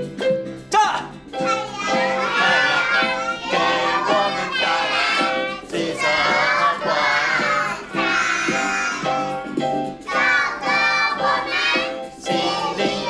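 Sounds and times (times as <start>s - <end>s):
electronic keyboard: 0.0s - 13.0s
children singing: 1.4s - 9.4s, 10.0s - 13.0s.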